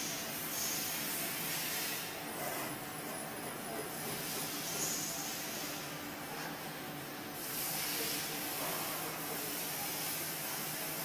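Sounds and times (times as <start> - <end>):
pneumatic air hiss: 0.0 - 2.7, 4.0 - 6.6, 7.4 - 11.0.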